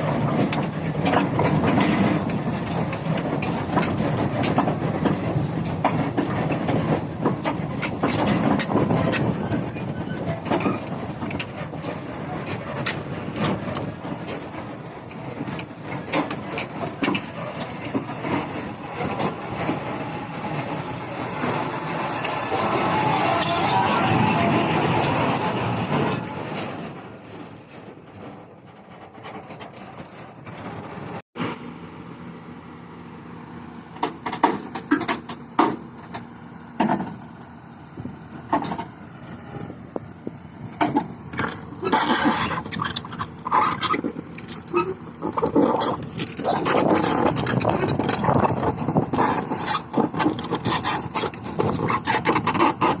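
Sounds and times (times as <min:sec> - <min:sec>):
excavator running: 0:00.0 - 0:53.0.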